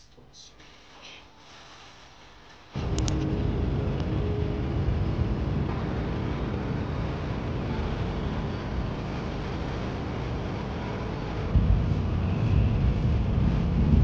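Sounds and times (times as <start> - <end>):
rumble of passing traffic: 2.8 - 14.0.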